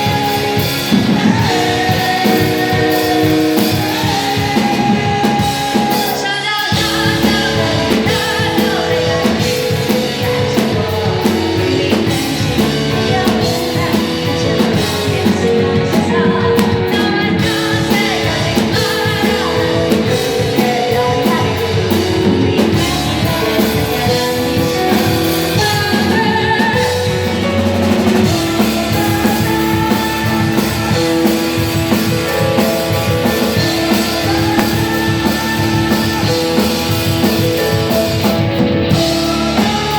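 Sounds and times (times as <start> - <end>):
drum kit: 0.0 - 39.9
electric guitar: 0.0 - 39.9
person singing: 0.0 - 39.9.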